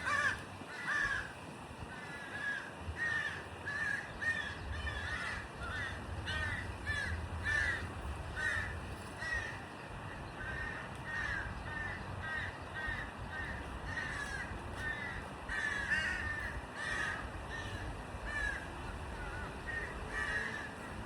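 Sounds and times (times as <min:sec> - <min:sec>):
birds cawing: 0:00.0 - 0:21.0
low steady rumble: 0:00.0 - 0:21.0.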